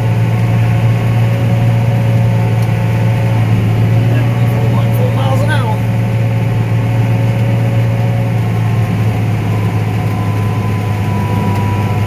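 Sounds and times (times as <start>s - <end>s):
combine harvester engine drone: 0.0s - 12.0s
thin steady whine: 0.0s - 12.0s.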